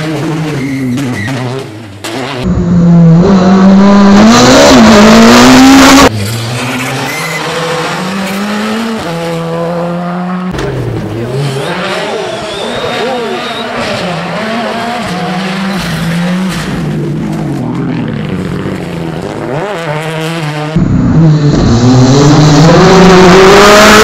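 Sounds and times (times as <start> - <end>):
distant rally cars accelerating: 0.0 - 24.0.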